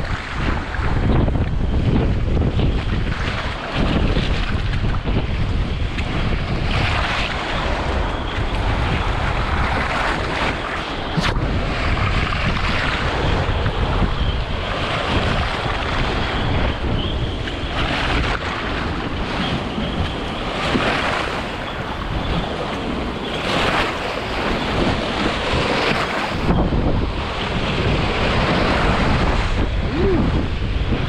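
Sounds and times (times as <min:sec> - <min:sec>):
storm wind buffeting microphone: 0:00.0 - 0:31.0
waves splashing against dock: 0:00.0 - 0:31.0.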